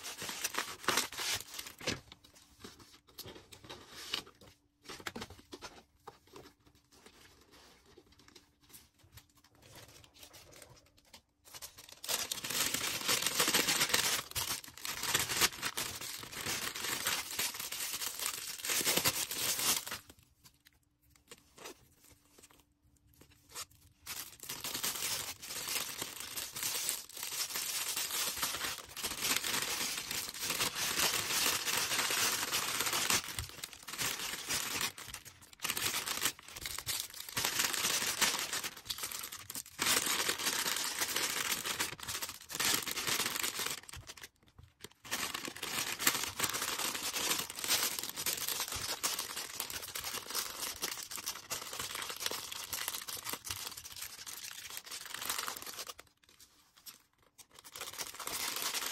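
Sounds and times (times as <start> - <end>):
packaging crinkling and rustling: 0.0 - 58.9.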